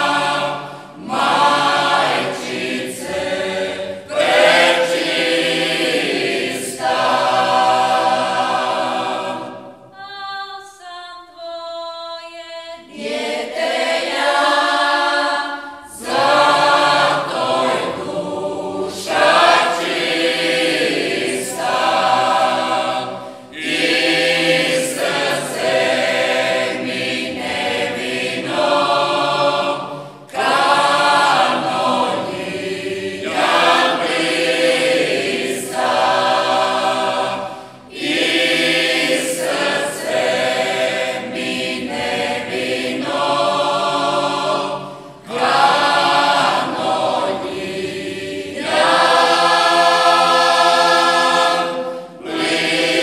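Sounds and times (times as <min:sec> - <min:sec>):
vocal group singing a cappella: 0:00.0 - 0:53.0.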